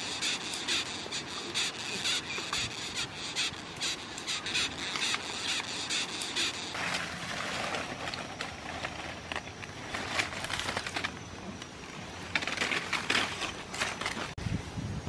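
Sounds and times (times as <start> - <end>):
leaves and twigs rustling: 0.0 - 14.4.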